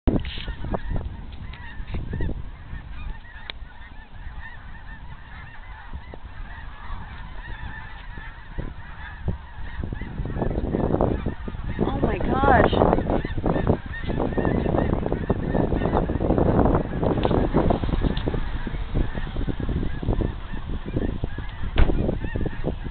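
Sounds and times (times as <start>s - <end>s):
flock of geese honking: 0.1s - 22.9s.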